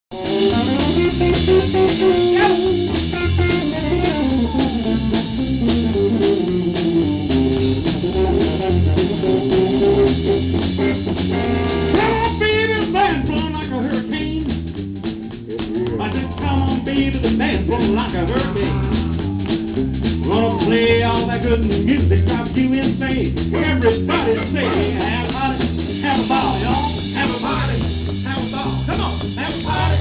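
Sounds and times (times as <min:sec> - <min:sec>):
drum kit: 0:00.1 - 0:30.0
electric guitar: 0:00.1 - 0:30.0.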